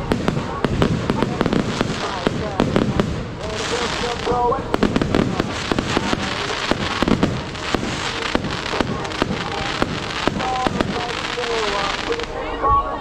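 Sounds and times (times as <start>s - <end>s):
distant firework explosions: 0.0s - 12.4s
firework bangs and cracks: 0.0s - 12.4s.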